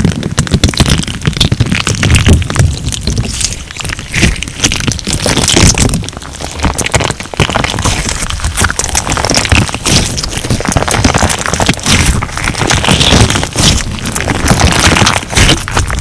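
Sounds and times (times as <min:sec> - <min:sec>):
slime crackling and crunching: 0:00.0 - 0:16.0.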